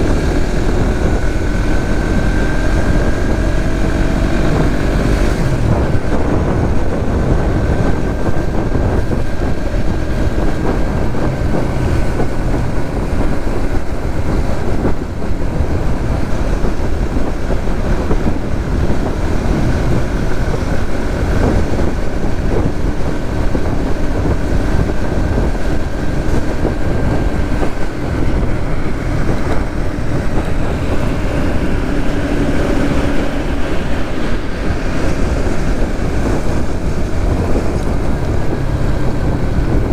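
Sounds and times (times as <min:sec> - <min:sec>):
motorcycle engine running: 0:00.0 - 0:39.9
road noise: 0:00.0 - 0:39.9
wind rush on microphone: 0:00.0 - 0:39.9.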